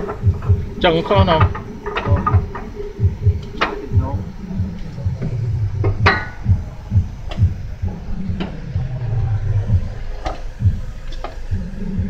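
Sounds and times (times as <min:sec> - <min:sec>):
microphone handling thumps: 0:00.1 - 0:11.7.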